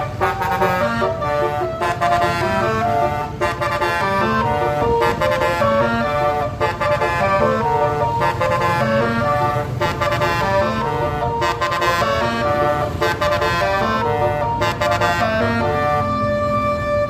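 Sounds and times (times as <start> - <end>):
bus air horn playing melody: 0.0 - 17.0.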